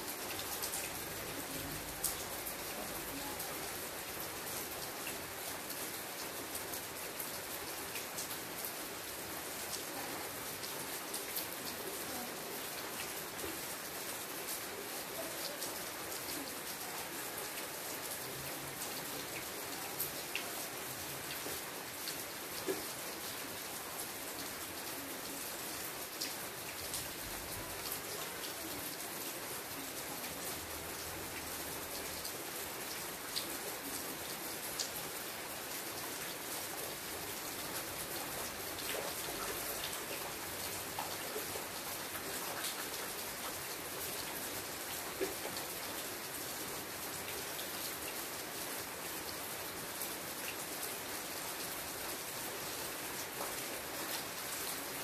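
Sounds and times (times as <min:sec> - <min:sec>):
steady rain on foliage: 0:00.0 - 0:55.0.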